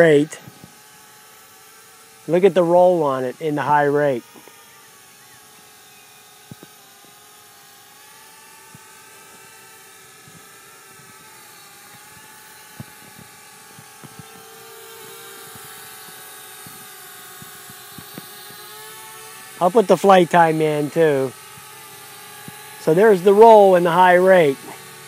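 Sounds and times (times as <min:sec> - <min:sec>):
toy drone propellers whining: 0:00.0 - 0:25.0.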